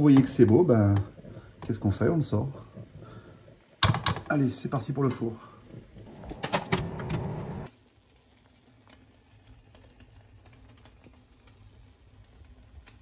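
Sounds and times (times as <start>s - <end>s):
pot simmering with bubbling pops: 0.0s - 13.0s.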